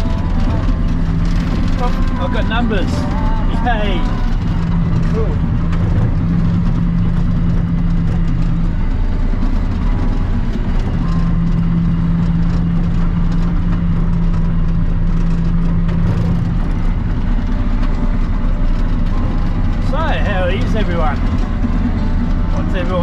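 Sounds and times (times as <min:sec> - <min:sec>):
bulldozer diesel engine drone: 0:00.0 - 0:23.0.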